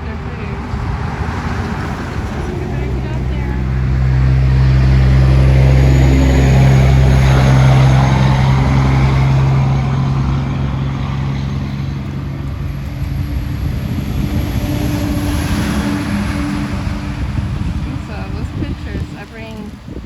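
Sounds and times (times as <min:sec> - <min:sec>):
low motor hum: 0:00.0 - 0:20.0
rough low rumble: 0:00.0 - 0:20.0.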